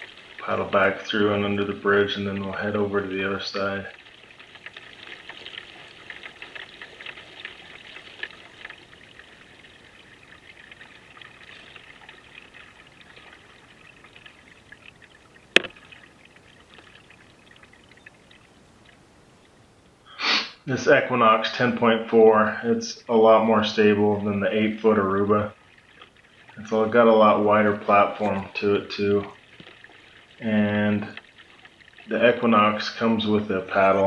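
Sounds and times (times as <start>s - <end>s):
water dripping off paddle: 0.0s - 19.6s, 23.3s - 34.0s.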